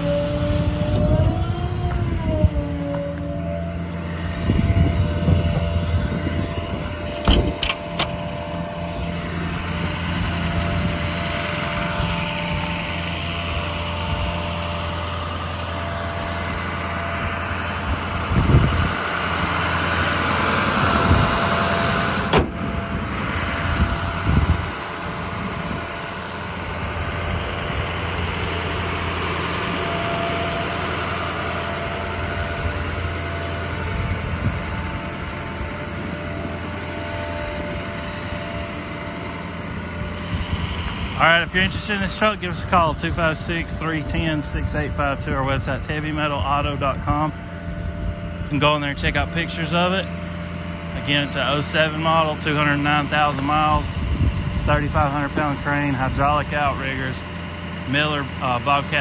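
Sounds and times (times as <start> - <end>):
air compressor running: 0.0 - 59.0
diesel engine running: 0.0 - 59.0.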